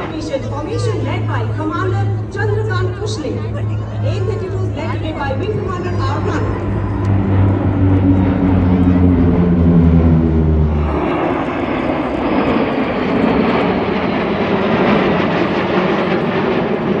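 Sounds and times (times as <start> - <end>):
jet fighters flying past: 0.0 - 17.0
propeller aircraft drone: 0.0 - 17.0.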